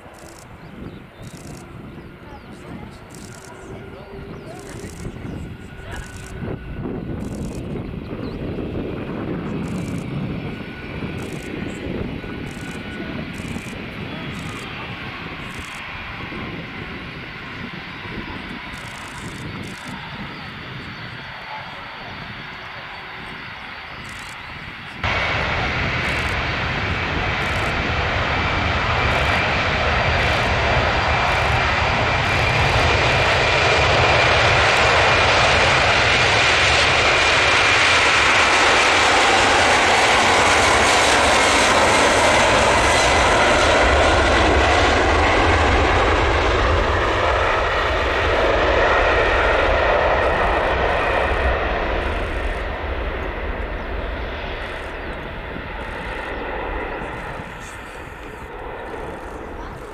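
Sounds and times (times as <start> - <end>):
loud jet roar: 0.0 - 59.9.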